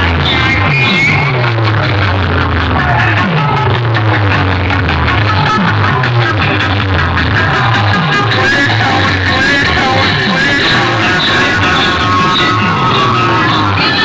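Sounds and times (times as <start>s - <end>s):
loud dance music with heavy bass: 0.0s - 14.0s.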